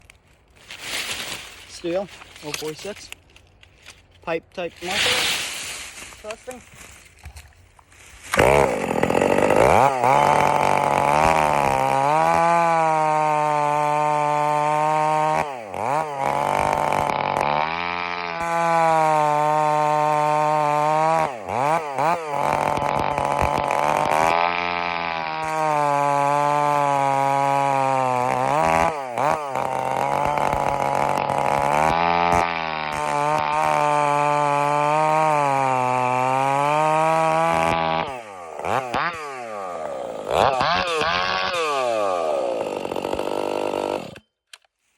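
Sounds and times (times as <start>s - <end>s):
chainsaw revving: 4.7s - 6.8s, 8.2s - 44.3s.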